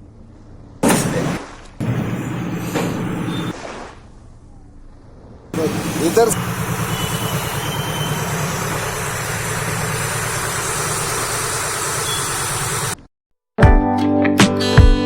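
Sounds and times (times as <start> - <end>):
engine hum: 0.0 - 13.1.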